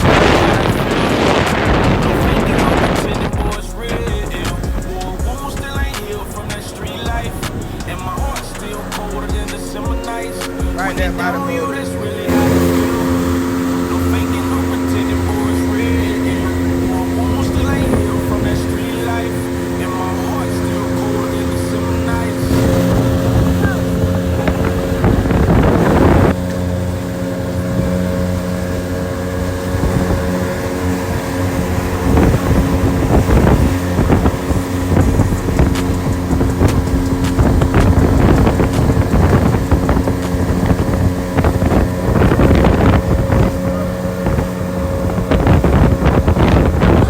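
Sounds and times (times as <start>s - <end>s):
loud rush of noise: 0.0s - 47.0s
motorboat engine running: 0.0s - 47.0s
water splashes: 0.0s - 47.0s
wind buffeting microphone: 0.0s - 47.0s.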